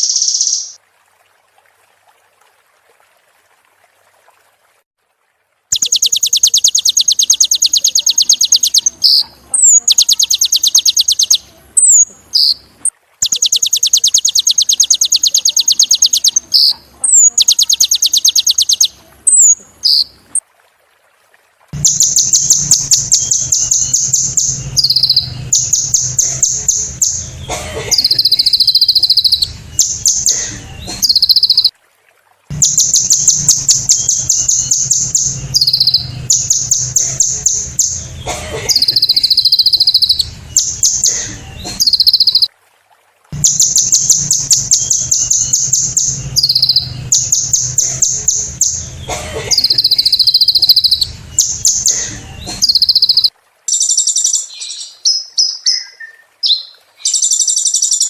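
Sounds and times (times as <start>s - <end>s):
bird singing rapid high trills: 0.0s - 0.8s, 5.7s - 20.1s, 21.8s - 31.7s, 32.5s - 42.5s, 43.4s - 58.0s.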